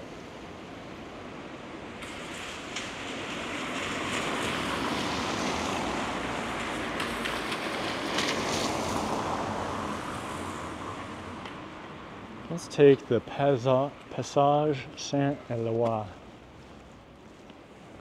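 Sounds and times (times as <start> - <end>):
vehicle tyre and road noise: 0.0 - 18.0.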